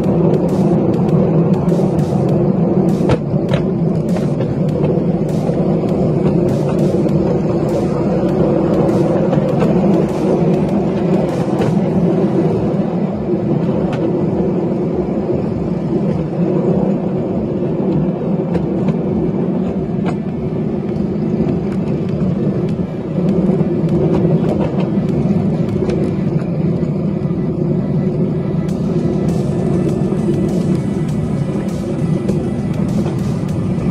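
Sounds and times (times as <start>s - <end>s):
train wheels rumbling: 0.0s - 33.9s
wheels clicking over rail joints: 0.0s - 33.9s.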